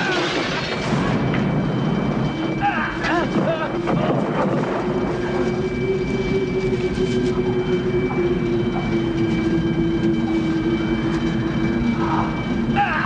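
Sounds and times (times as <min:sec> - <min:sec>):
tornado roaring: 0:00.0 - 0:13.0.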